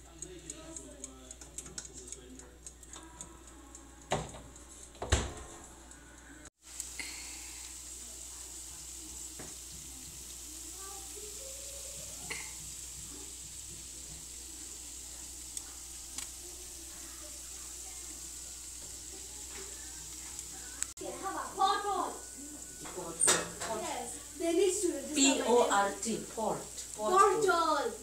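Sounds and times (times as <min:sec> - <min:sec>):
meatballs sizzling in oven: 0:00.0 - 0:28.0.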